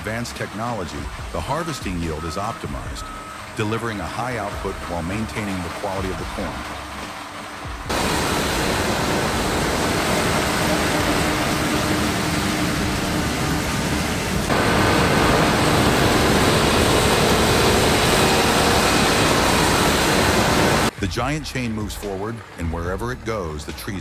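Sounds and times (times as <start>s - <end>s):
tractor engine rumbling: 0.0s - 24.0s.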